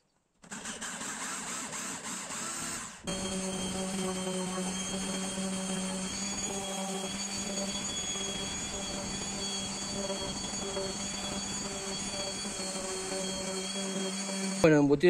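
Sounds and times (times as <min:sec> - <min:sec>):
orbital sander sanding wood: 0:01.7 - 0:15.0.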